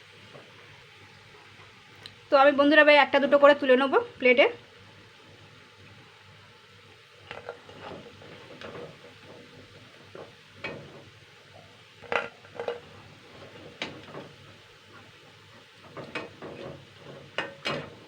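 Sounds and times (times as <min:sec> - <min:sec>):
frying oil sizzling: 0:00.0 - 0:18.0.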